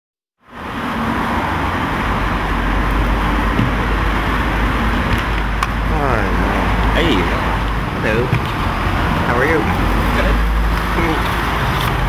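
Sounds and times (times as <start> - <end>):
street traffic rumble: 0.4 - 12.0.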